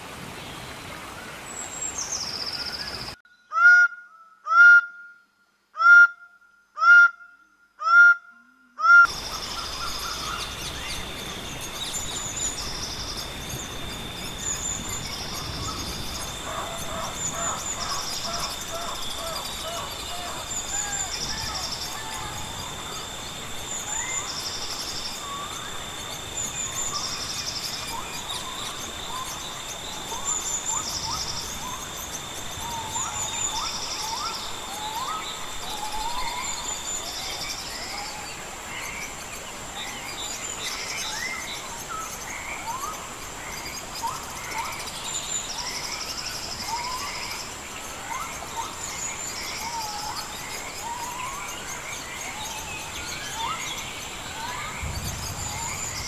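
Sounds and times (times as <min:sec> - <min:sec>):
insects trilling: 0:09.0 - 0:56.0
high-pitched insect whine: 0:09.1 - 0:39.1, 0:39.8 - 0:56.0.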